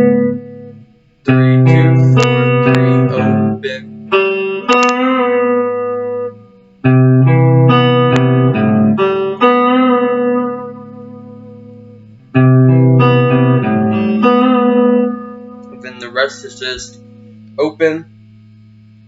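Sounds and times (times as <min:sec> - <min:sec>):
guitar riff picked note by note: 0:00.0 - 0:19.0.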